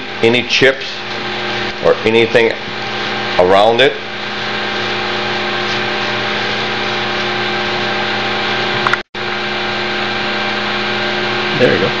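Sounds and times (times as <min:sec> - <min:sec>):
machine hum with hiss: 0:00.0 - 0:12.0.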